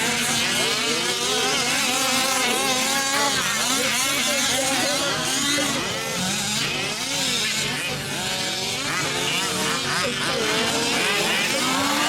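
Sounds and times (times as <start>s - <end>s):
rc truck engines revving: 0.0s - 12.0s.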